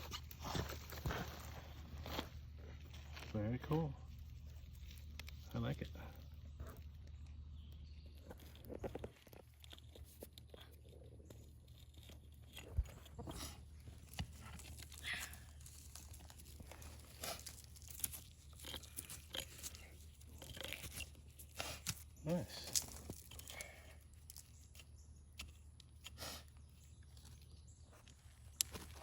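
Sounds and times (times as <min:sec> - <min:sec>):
digging through soil and rocks: 0:00.0 - 0:29.0.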